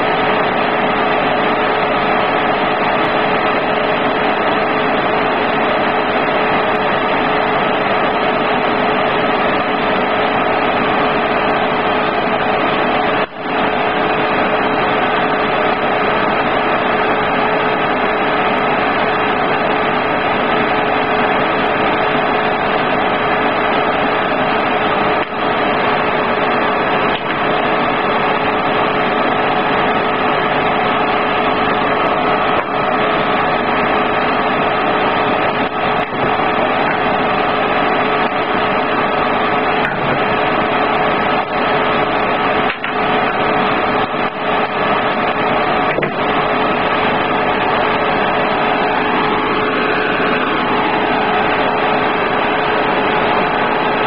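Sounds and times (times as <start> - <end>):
hot air station blowing: 0.0 - 54.0.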